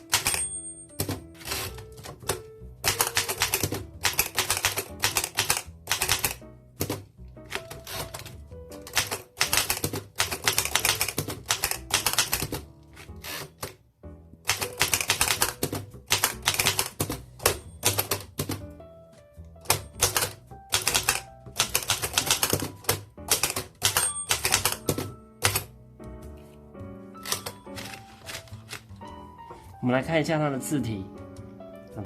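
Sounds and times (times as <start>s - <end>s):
typewriter typing: 0.0s - 13.8s, 14.5s - 18.6s, 19.6s - 25.7s, 27.2s - 28.9s
soft background music: 0.0s - 32.0s.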